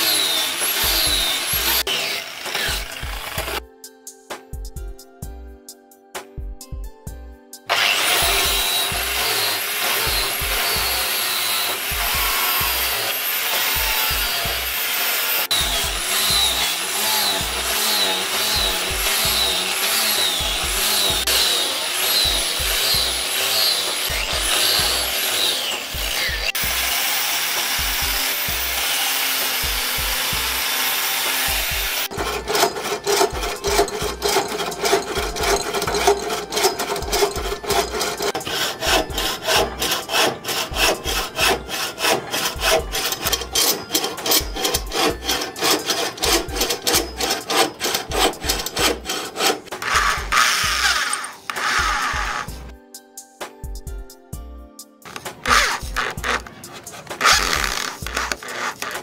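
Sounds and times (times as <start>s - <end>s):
angle grinder sanding wood: 0.0s - 3.6s, 7.7s - 52.7s, 55.1s - 59.0s
electric drill boring wood: 0.0s - 3.6s, 7.7s - 52.7s, 55.1s - 59.0s
hand saw cutting wood: 0.0s - 3.6s, 7.7s - 52.7s, 55.1s - 59.0s.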